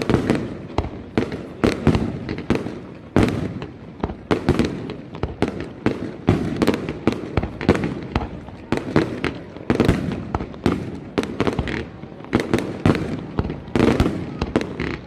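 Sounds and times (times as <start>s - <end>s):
fireworks bursting with rumbling echo: 0.0s - 15.0s.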